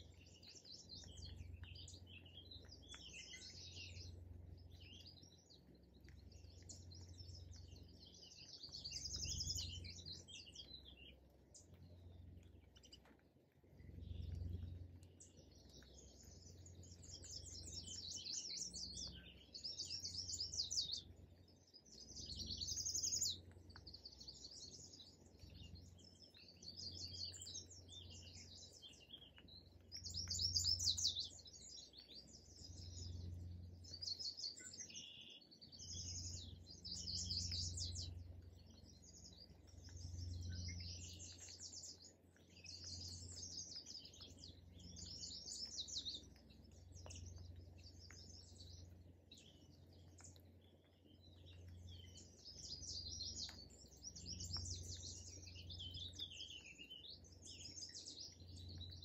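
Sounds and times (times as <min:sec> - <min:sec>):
faint low rumble: 0:00.0 - 0:59.0
songbirds singing: 0:00.0 - 0:59.0.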